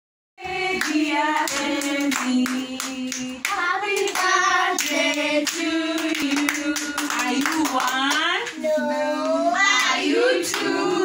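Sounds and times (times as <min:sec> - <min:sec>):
group singing together: 0:00.4 - 0:11.0.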